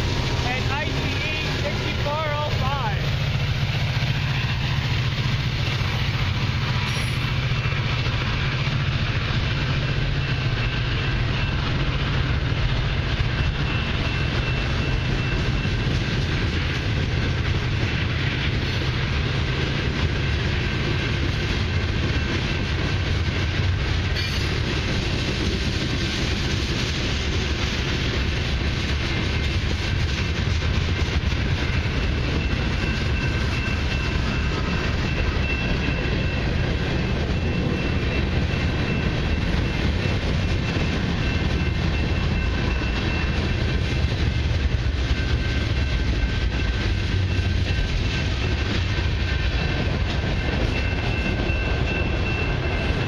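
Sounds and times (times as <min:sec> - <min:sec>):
freight train rumble: 0:00.0 - 0:53.0.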